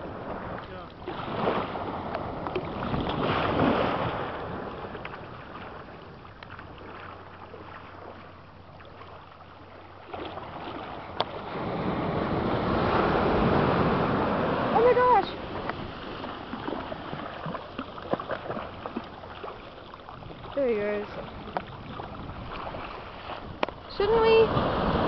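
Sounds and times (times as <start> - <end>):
wind rumbling on microphone: 0.0 - 9.0, 10.1 - 25.0
small waves washing ashore: 0.0 - 25.0.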